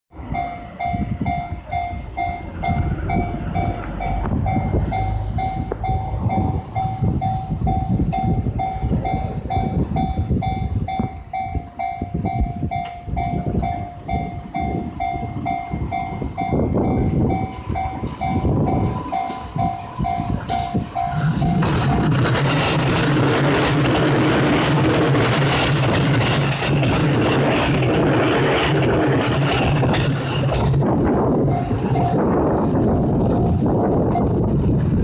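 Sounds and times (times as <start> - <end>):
level-crossing warning bell ringing: 0.1 - 34.5
electric train rumbling past: 0.1 - 35.0.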